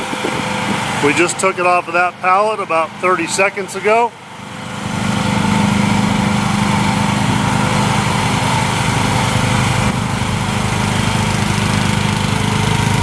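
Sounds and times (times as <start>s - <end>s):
mini excavator engine running: 0.0s - 13.0s.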